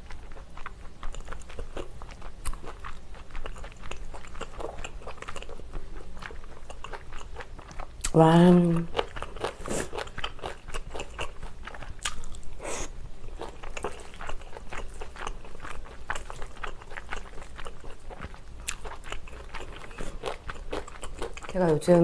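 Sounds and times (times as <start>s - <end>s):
close-miked chewing: 0.0s - 22.0s.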